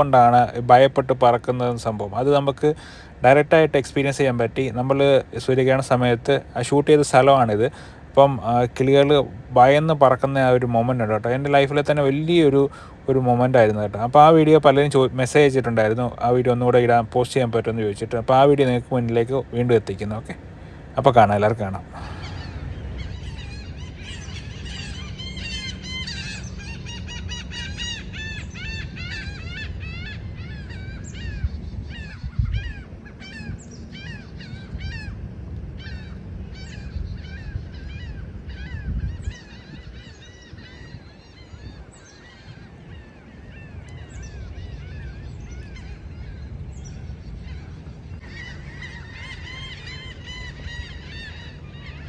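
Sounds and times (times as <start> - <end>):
flock of birds calling: 0.0 - 52.0.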